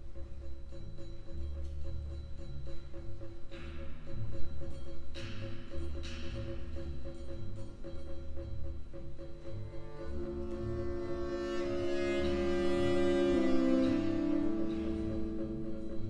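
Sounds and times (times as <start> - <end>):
low pulsing beat: 0.0 - 16.0
sustained string-like notes: 0.0 - 16.0.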